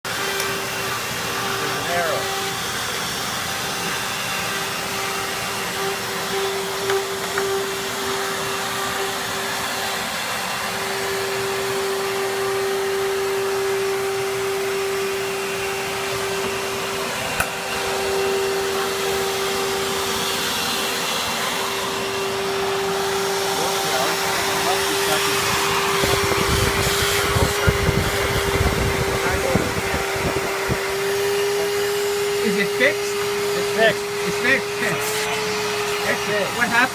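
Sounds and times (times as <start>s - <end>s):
vacuum cleaner motor running: 0.0s - 36.9s.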